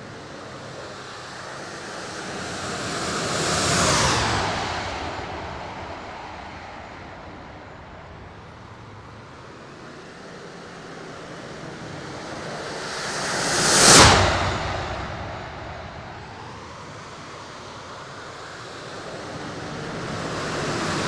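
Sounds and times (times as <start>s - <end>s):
model jet flying past: 0.0s - 21.0s.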